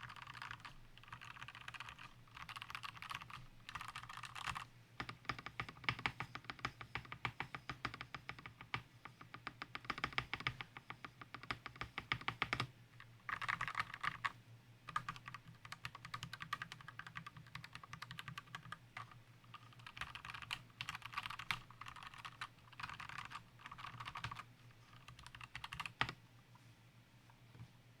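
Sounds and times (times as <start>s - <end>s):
mechanical keyboard typing: 0.0s - 12.7s, 13.3s - 14.3s, 14.9s - 26.2s.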